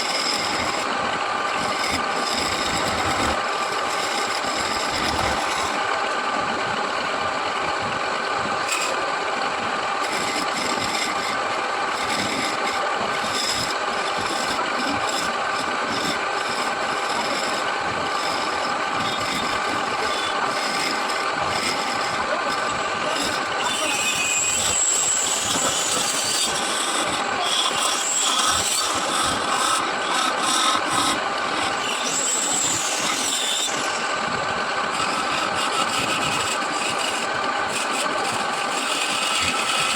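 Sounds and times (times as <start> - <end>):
lathe motor running: 0.0 - 39.9
tool scraping spinning wood: 0.0 - 39.9.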